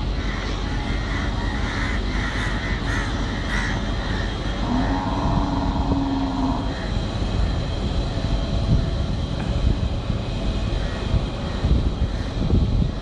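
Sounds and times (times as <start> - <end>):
monorail train rumbling past: 0.0 - 13.0
train hum: 0.0 - 13.0.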